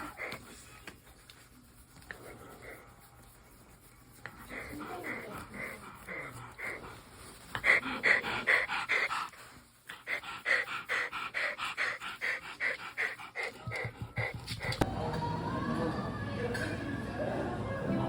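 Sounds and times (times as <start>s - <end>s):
dog panting: 0.0s - 14.9s.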